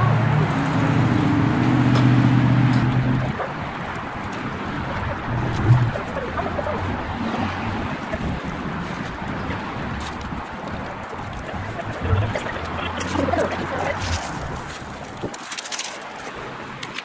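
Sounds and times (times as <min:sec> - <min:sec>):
traffic rushing: 0:00.0 - 0:17.0
vehicle engine hum: 0:00.0 - 0:17.0
wind on microphone: 0:00.1 - 0:15.5.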